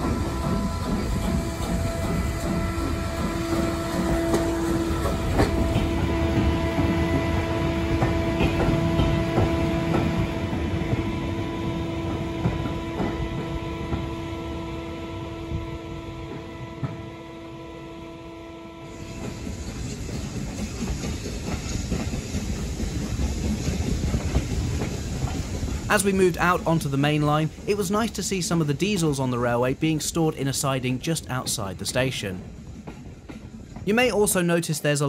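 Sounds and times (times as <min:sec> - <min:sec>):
train wheels rumbling and clacking: 0:00.0 - 0:35.0.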